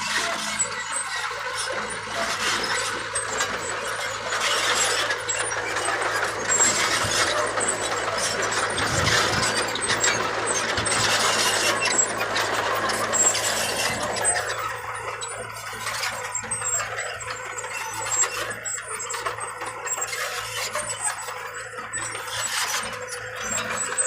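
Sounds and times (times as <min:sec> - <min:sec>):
bulldozer engine running: 0:00.0 - 0:24.0
metallic squealing and clanking: 0:00.0 - 0:24.0.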